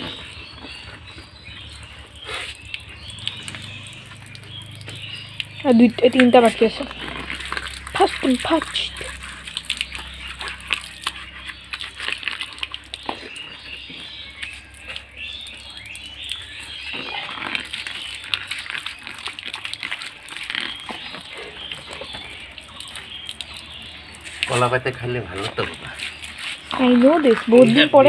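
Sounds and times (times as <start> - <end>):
wet leaf rustling and clicking: 0.0 - 28.0
tap water splashing on concrete: 1.7 - 28.0.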